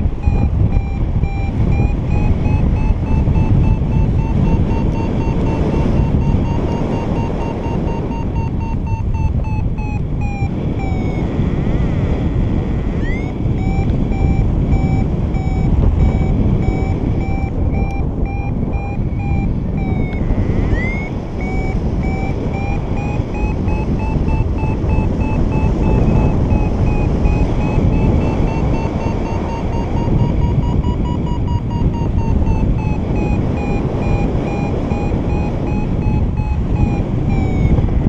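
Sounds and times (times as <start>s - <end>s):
variometer beeping: 0.0s - 38.0s
wind on microphone: 0.0s - 38.0s.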